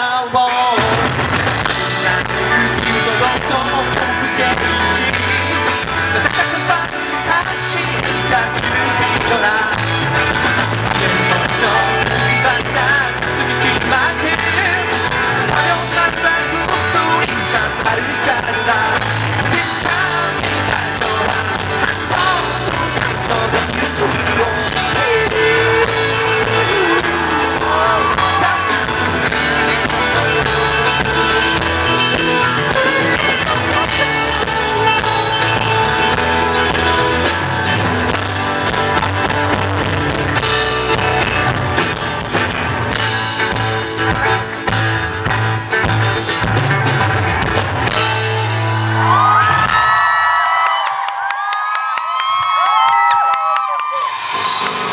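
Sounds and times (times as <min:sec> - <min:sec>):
person singing: 0:00.0 - 0:44.8
live pop-rock band: 0:00.0 - 0:54.9.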